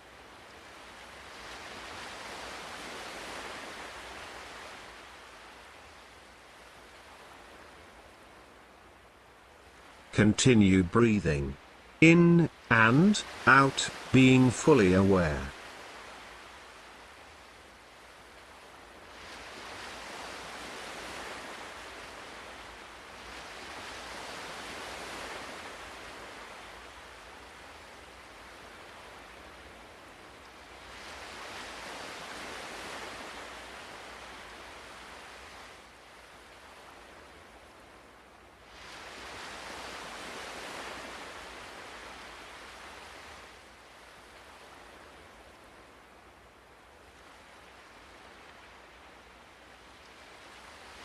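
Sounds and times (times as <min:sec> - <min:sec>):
ocean waves washing on shore: 0:00.0 - 0:51.0.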